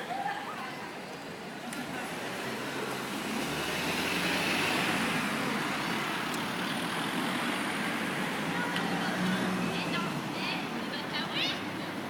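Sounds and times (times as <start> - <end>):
road traffic noise: 0.0 - 12.0
vehicle passing: 1.8 - 12.0.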